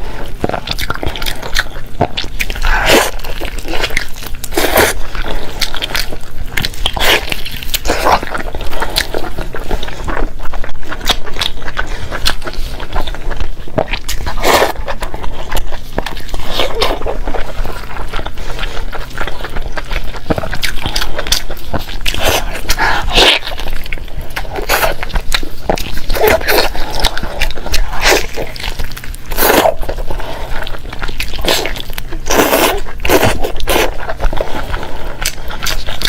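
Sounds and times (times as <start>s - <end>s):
person chewing and biting food: 0.0s - 36.0s.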